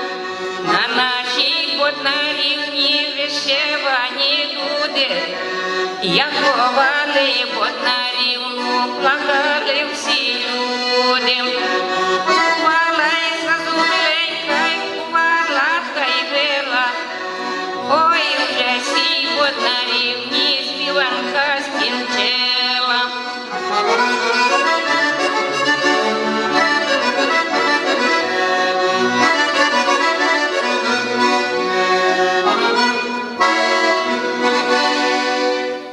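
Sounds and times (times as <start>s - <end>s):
accordion playing folk melody: 0.0s - 35.9s.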